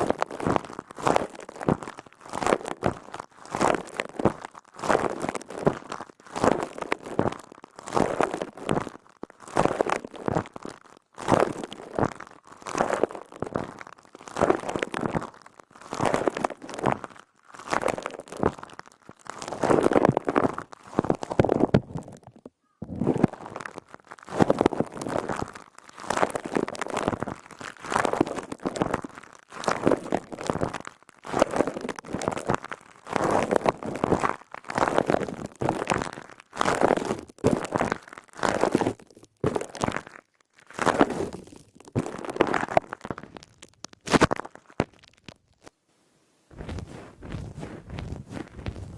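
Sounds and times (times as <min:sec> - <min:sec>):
crunchy sponge squeezing: 0:00.0 - 0:45.8, 0:46.5 - 0:48.9.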